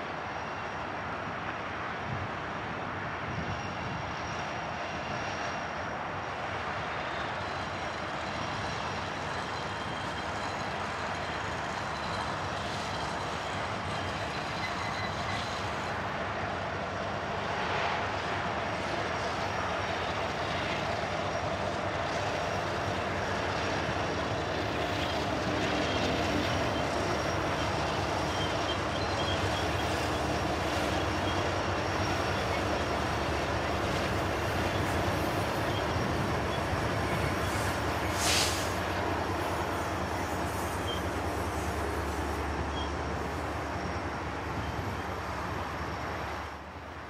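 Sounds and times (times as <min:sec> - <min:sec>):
diesel locomotives passing: 0:00.0 - 0:47.0
train cars rumbling on rails: 0:00.0 - 0:47.0.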